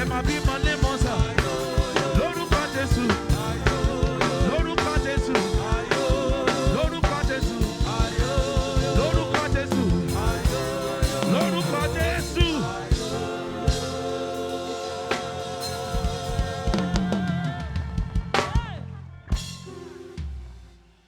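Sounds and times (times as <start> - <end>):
gospel band music: 0.0 - 20.5
drum kit strokes: 0.0 - 20.8.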